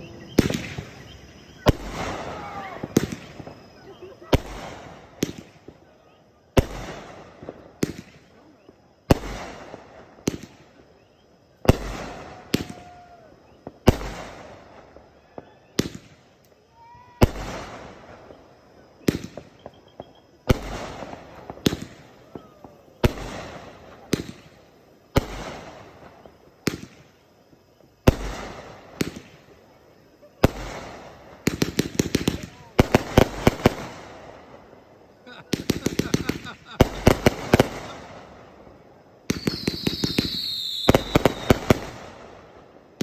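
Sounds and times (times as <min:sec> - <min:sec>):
fireworks bangs: 0:00.0 - 0:43.0
small firework cracks: 0:00.1 - 0:43.0.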